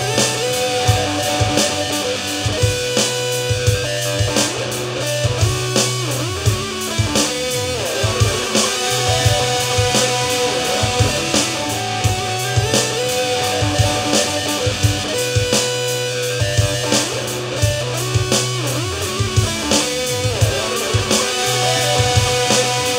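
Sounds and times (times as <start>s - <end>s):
bass line: 0.0s - 22.9s
electric guitar lead notes bending: 0.0s - 22.9s
steady drum beat: 0.0s - 22.9s.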